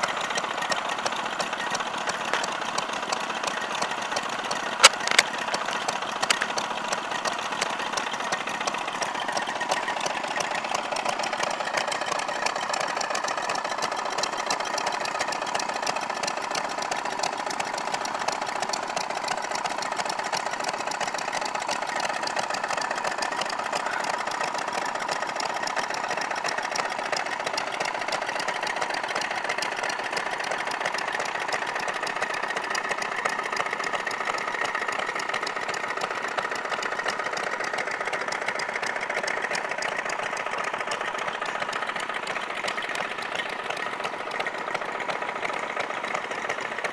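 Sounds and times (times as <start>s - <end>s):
small stationary engines clattering: 0.0s - 46.9s.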